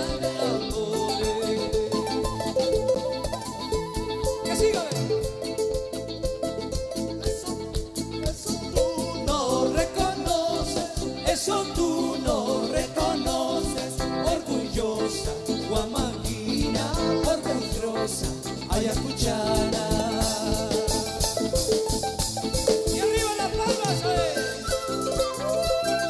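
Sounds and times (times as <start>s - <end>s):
live band playing carnival tune: 0.0s - 26.0s
steady drum beat: 0.0s - 26.0s.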